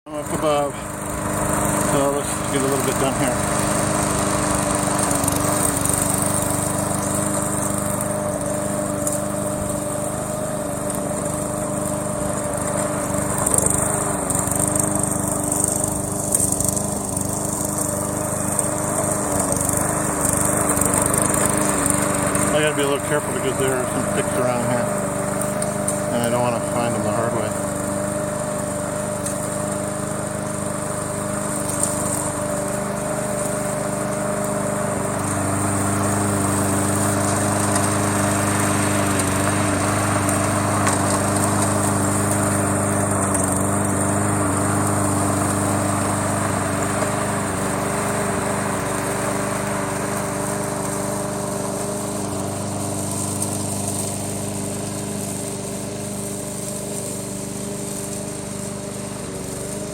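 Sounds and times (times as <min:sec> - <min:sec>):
push mower cutting grass: 0:00.1 - 0:59.9.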